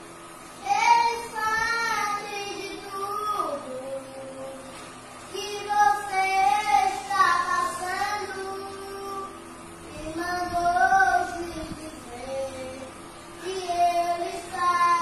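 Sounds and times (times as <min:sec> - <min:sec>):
boy singing worship song: 0:00.6 - 0:15.0.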